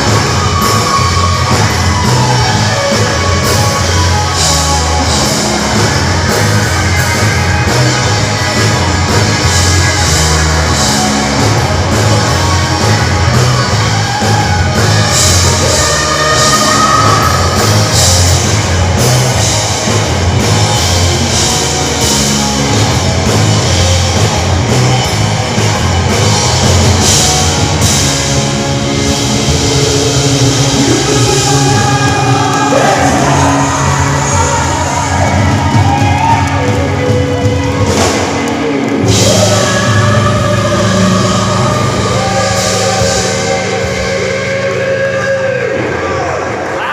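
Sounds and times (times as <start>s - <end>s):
drum kit playing: 0.0s - 46.0s
heavy metal rock music: 0.0s - 46.9s.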